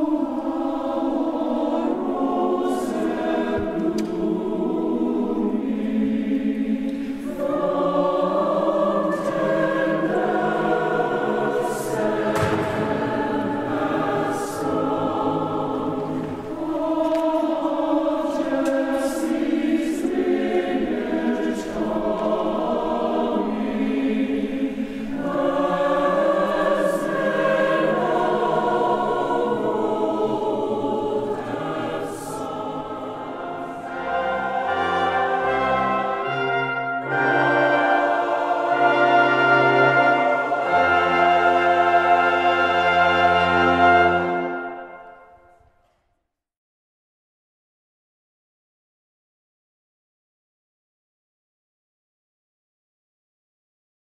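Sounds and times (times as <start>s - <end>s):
choir singing in harmony: 0.0s - 45.6s.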